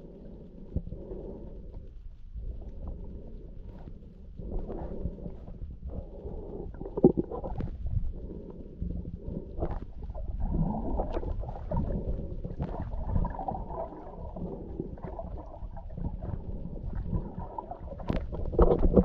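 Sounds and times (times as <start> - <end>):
underwater rumble and gurgle: 0.0 - 19.0.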